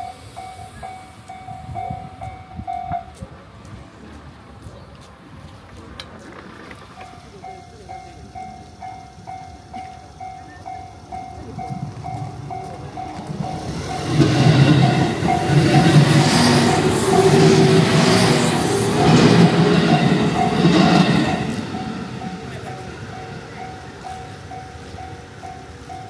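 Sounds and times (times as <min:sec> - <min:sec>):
level crossing warning bell: 0:00.0 - 0:03.2, 0:06.9 - 0:26.0
train rumbling on rails: 0:00.0 - 0:26.0.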